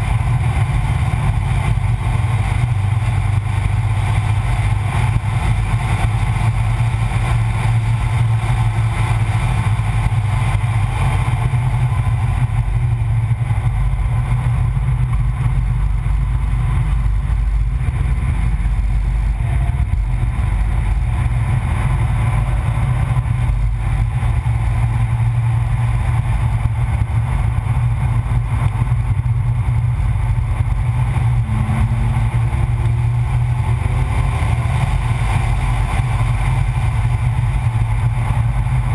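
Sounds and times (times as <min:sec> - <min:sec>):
race car engine: 0:00.0 - 0:38.9.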